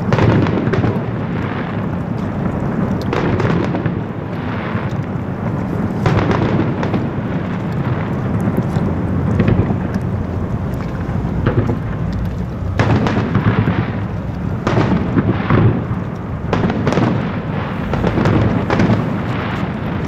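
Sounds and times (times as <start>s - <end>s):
sharp firework bangs: 0.0s - 9.9s, 11.4s - 12.0s, 12.7s - 20.0s
deep rumble of firework bursts: 0.0s - 20.0s
firework crackling: 0.0s - 20.0s.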